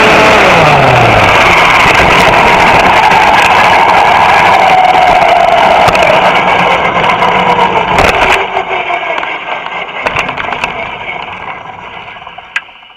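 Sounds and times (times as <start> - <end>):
go-kart engine winding down: 0.0 - 12.9.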